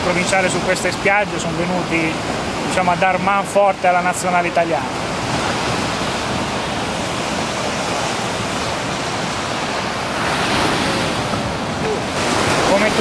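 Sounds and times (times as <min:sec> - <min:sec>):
surf breaking on beach: 0:00.0 - 0:13.0.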